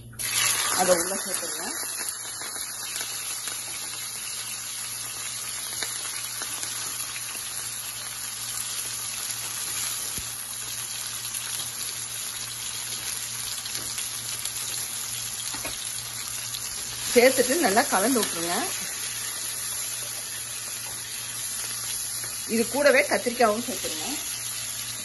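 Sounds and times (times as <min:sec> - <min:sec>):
vegetables sizzling in oil: 0:00.1 - 0:25.0.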